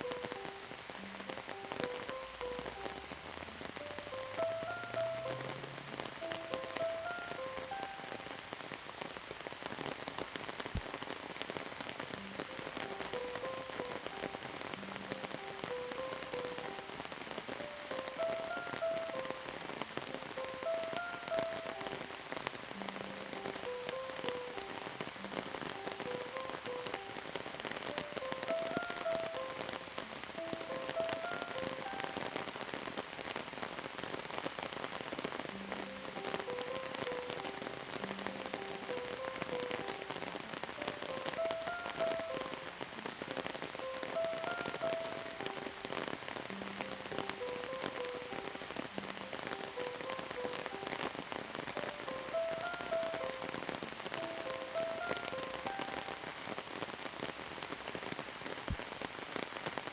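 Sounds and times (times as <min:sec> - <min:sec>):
soft slow tune: 0:00.0 - 0:58.0
steady rain patter: 0:00.0 - 0:59.9.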